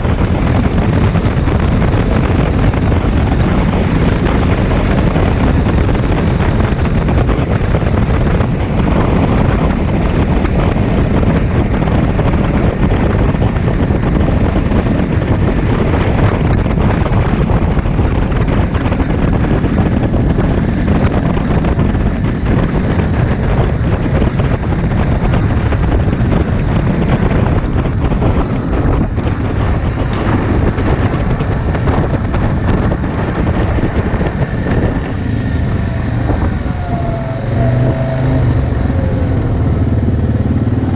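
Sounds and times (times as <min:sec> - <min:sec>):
atv engine running: 0:00.0 - 0:40.9
wind rushing over microphone: 0:00.0 - 0:40.9.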